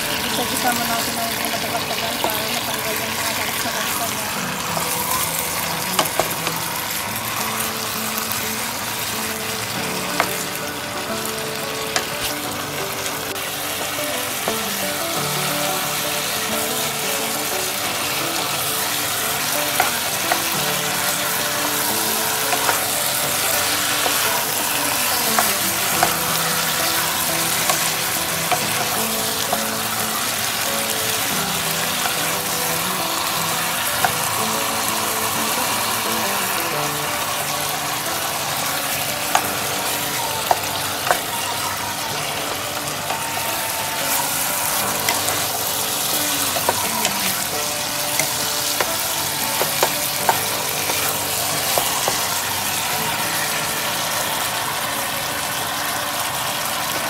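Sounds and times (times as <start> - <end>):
chicken sizzling in a pot: 0.0 - 57.0.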